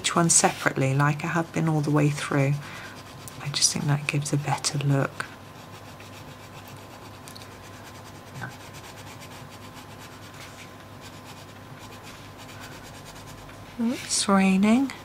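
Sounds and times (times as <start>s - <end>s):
pencil scratching on paper: 0.0s - 14.8s.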